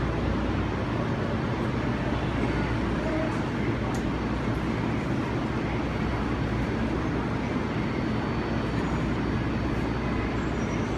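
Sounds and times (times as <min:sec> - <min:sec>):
subway train rumbling: 0:00.0 - 0:10.9.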